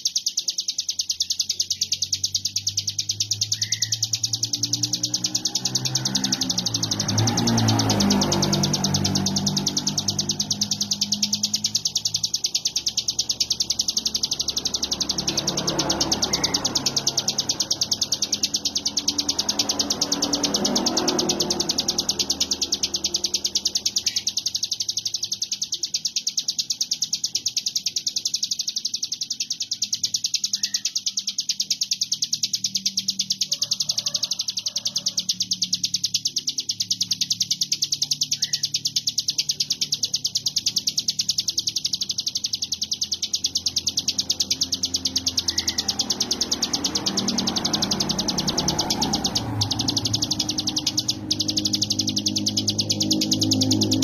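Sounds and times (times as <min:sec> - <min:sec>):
bird singing rapid high trill: 0:00.0 - 0:54.0.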